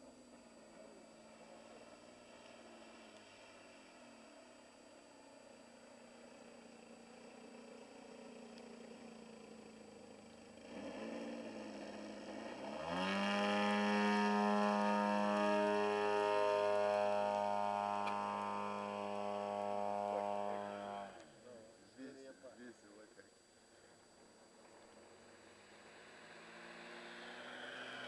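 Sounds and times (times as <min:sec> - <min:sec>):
model aeroplane motor high-revving: 0:00.0 - 0:21.3, 0:25.3 - 0:28.0.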